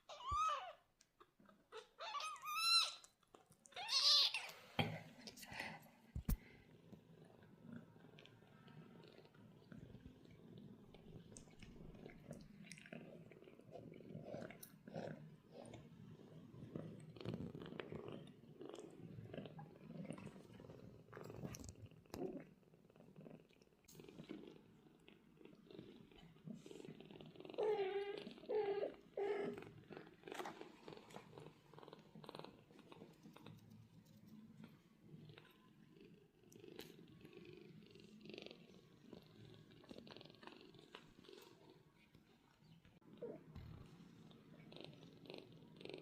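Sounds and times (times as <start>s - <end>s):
cats purring: 0.0s - 46.0s.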